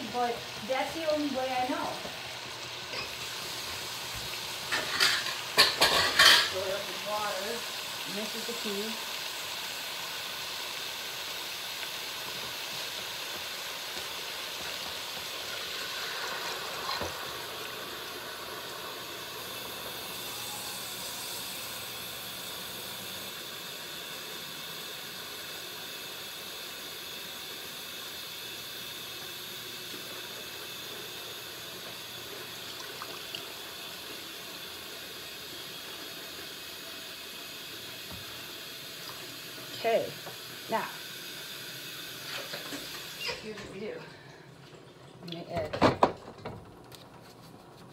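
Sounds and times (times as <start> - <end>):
chicken sizzling in a pan: 0.0 - 44.0.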